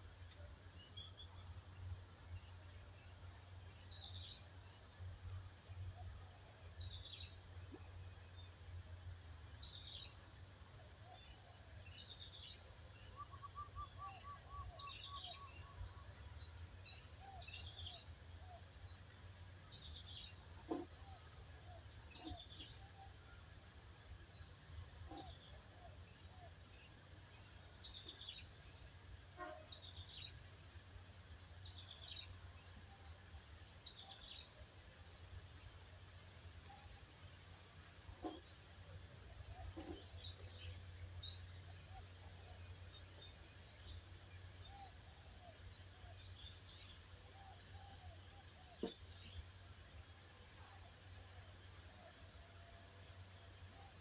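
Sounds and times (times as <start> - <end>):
faint birdsong: 0.0 - 54.0.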